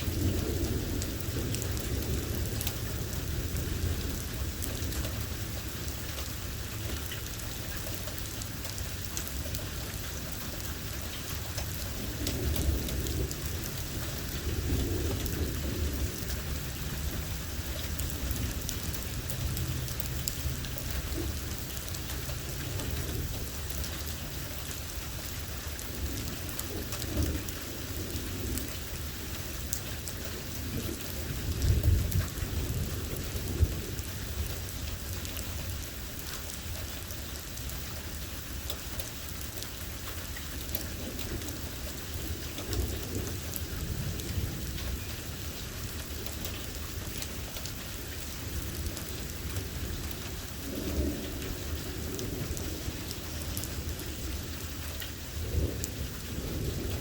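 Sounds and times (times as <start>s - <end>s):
thunder rumbling: 0.0s - 7.5s, 8.5s - 36.2s, 40.3s - 47.8s, 48.4s - 57.0s
heavy rain pattering: 0.0s - 57.0s.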